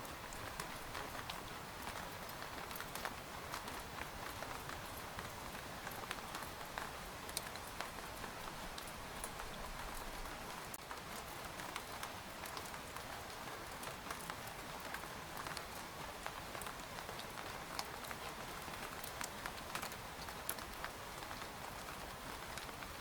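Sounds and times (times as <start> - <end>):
rain falling on a tent: 0.0 - 23.0.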